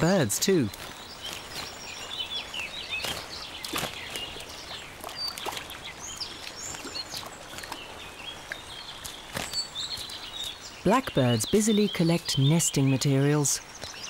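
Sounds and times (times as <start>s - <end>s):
birds splashing in water: 0.0s - 14.0s.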